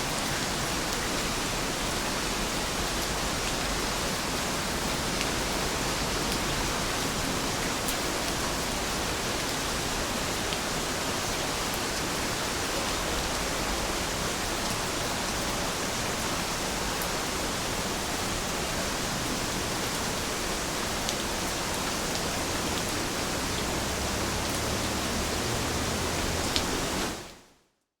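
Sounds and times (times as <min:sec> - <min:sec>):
steady rainfall: 0:00.0 - 0:27.5.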